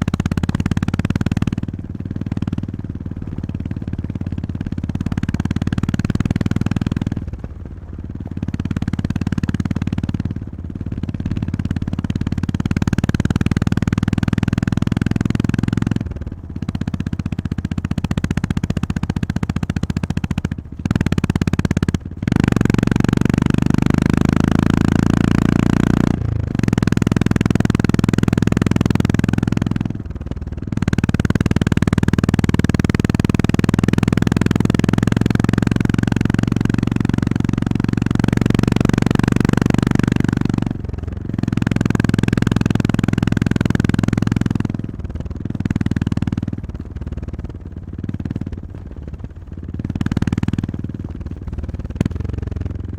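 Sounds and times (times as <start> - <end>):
motorcycle engine droning: 0.0 - 52.9.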